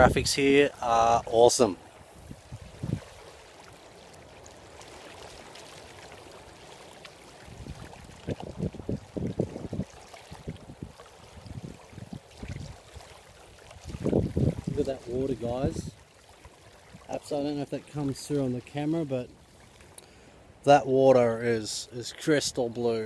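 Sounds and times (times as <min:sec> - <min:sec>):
running water: 0:00.0 - 0:23.0
soft outdoor hiss: 0:00.0 - 0:23.0.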